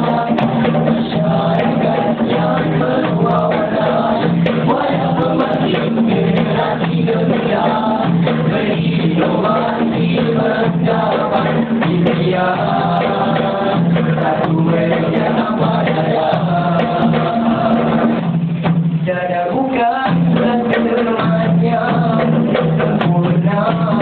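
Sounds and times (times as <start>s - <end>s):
men singing in harmony: 0.0s - 18.4s, 19.0s - 24.0s.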